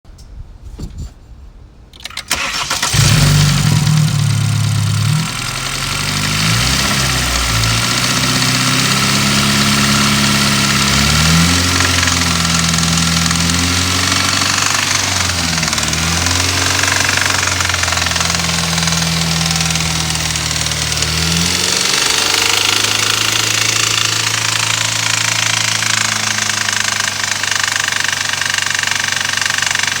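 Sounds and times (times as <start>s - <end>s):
engine rattling: 1.9s - 30.0s
car engine revving and idling: 2.3s - 30.0s.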